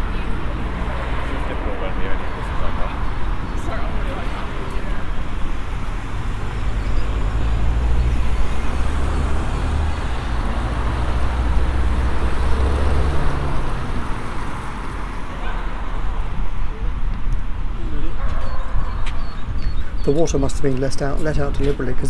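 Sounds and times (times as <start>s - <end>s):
road traffic engine rumble: 0.0s - 22.0s.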